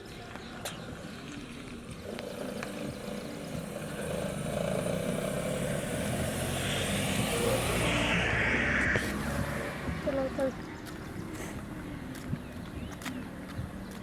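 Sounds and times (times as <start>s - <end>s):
vehicle engine approaching: 0.9s - 14.0s.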